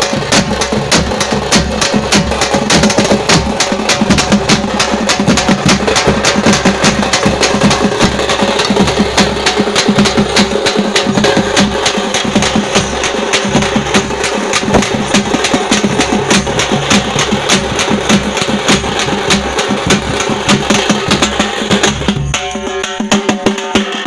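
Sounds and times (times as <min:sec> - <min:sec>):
frame drums and barrel drum beating: 0:00.0 - 0:24.0.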